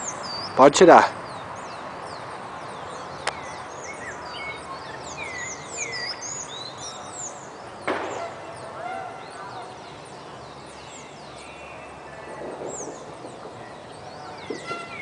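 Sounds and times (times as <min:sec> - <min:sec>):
outdoor background noise: 0:00.0 - 0:15.0
small birds chirping and twittering: 0:00.0 - 0:15.0.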